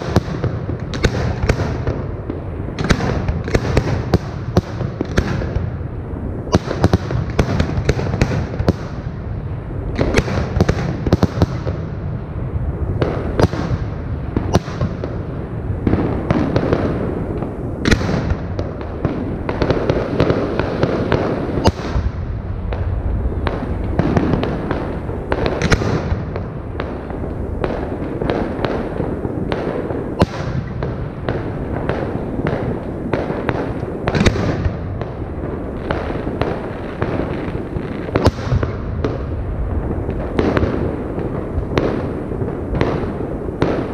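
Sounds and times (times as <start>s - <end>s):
fireworks bursting with sharp bangs: 0.0s - 43.9s
rumble and crackle of fireworks: 0.0s - 43.9s.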